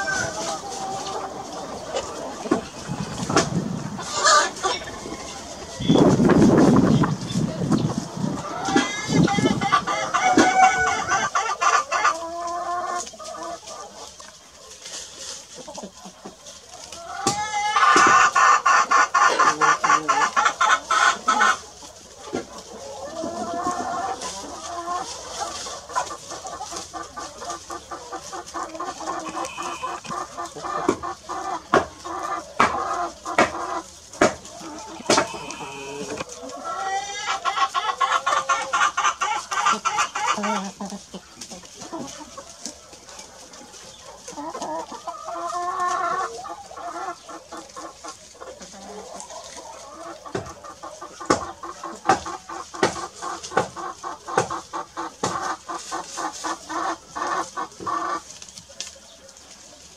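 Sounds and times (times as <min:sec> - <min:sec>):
chickens clucking: 0:00.0 - 0:59.9
drawn-out chicken call: 0:00.0 - 0:59.9.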